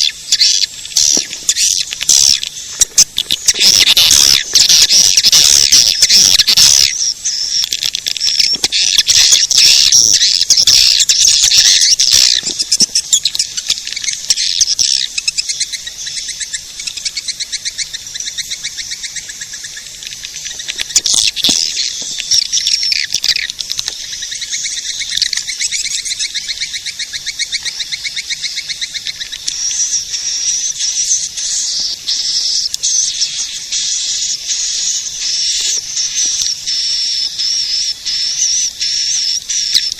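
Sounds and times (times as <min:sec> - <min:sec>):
swiftlets twittering: 0:00.0 - 0:39.9.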